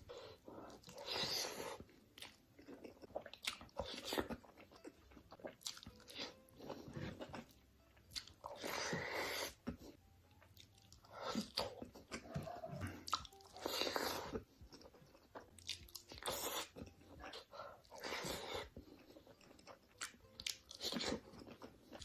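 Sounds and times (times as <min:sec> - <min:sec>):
crunchy food chewing: 0:00.6 - 0:22.0.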